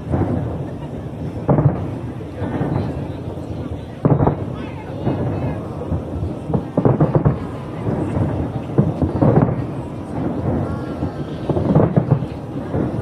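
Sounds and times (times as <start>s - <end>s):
fireworks booming: 0.0s - 13.0s
rumbling wash of noise: 0.0s - 13.0s.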